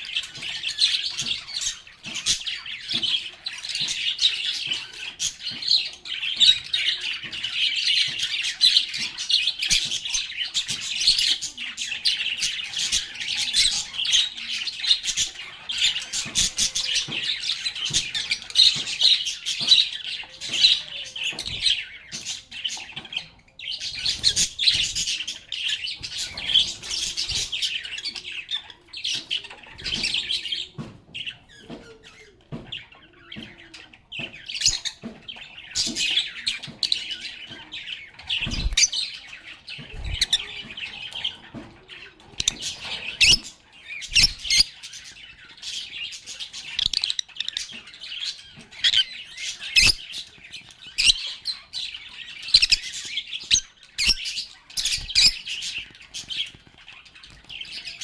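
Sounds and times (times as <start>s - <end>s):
lovebirds chirping and chattering: 0.0s - 58.0s.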